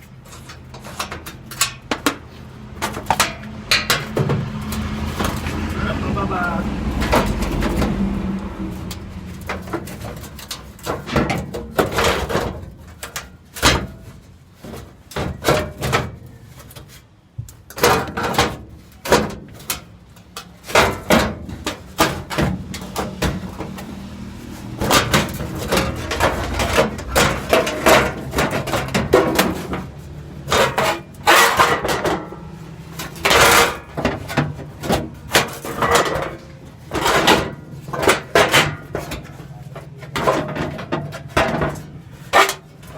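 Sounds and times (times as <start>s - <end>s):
metal tools knocking and clanking: 0.0s - 6.0s, 7.0s - 42.9s.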